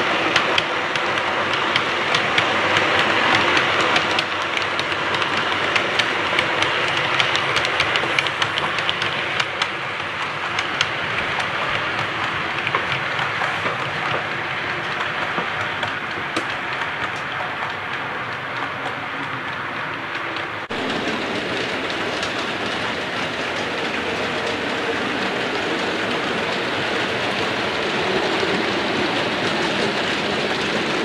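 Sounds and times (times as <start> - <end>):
model train rattling on track: 0.0 - 31.0.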